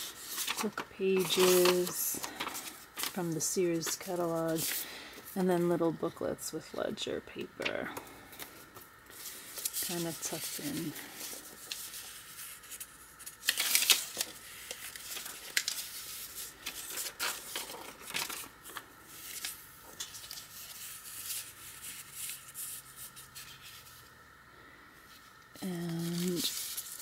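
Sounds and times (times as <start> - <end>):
paper rustling and crinkling: 0.0 - 5.8, 7.5 - 24.1, 25.0 - 27.0.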